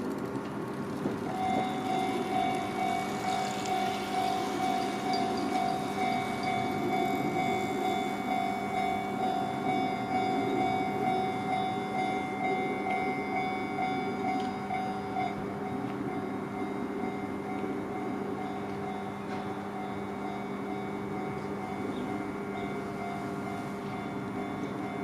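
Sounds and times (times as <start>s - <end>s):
train rumbling past: 0.0s - 25.0s
level-crossing warning bell: 1.2s - 25.0s.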